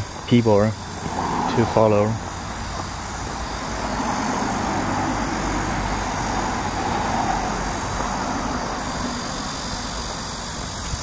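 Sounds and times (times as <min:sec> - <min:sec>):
road traffic rumble and tyre hiss: 0:00.0 - 0:11.0.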